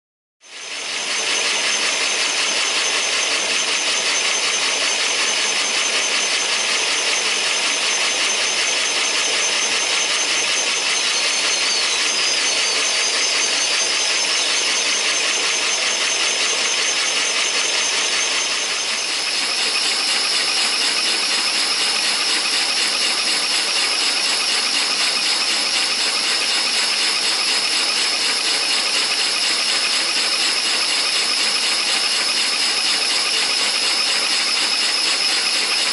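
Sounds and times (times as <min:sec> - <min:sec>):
vacuum cleaner whine: 0:00.4 - 0:35.9.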